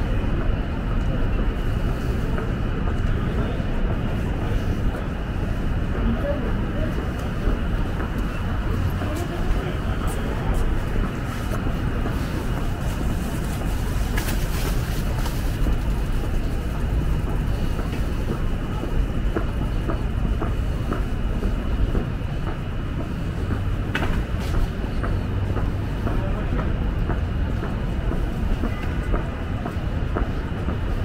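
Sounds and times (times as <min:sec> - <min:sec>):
city street traffic rumble: 0:00.0 - 0:31.0.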